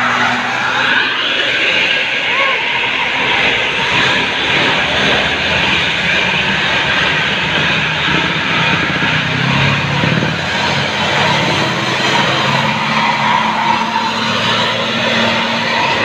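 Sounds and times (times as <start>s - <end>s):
deep engine note: 0.0s - 16.0s
heavy road traffic passing: 0.0s - 16.0s.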